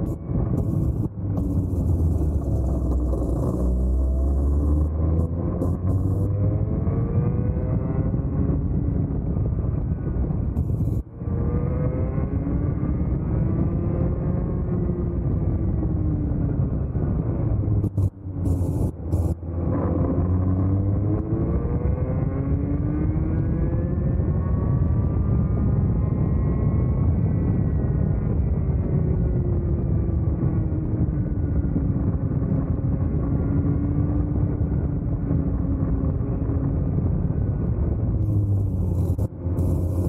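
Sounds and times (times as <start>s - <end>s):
kart engine at full throttle: 0.0s - 40.0s.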